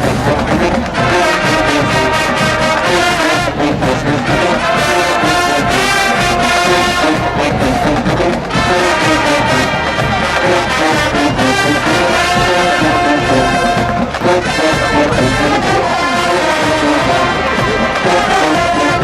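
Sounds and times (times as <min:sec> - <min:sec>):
brass chords: 0:00.0 - 0:19.0
drumline beat: 0:00.0 - 0:19.0.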